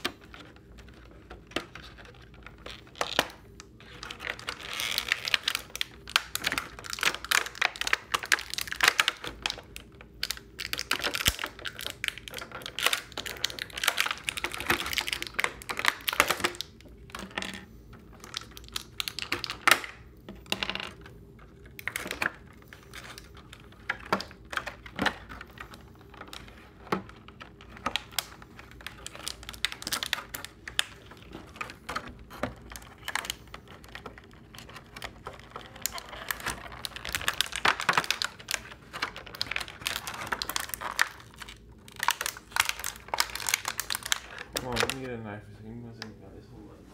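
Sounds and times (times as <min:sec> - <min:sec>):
stiff plastic crackling and clicking: 0:00.0 - 0:46.2.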